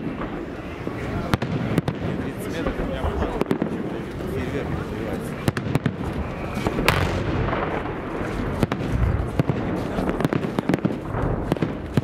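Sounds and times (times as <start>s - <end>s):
fireworks bangs: 0.0s - 12.0s
low rumble of fireworks bursts: 0.0s - 12.0s.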